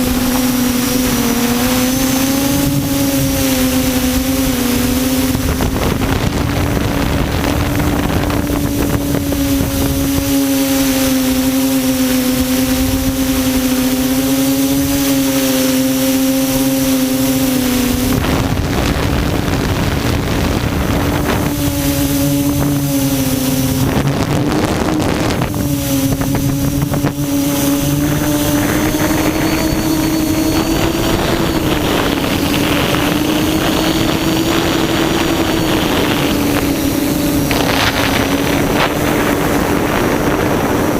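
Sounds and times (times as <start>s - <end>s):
drone motors humming: 0.0s - 40.9s
wind on microphone: 0.0s - 40.9s.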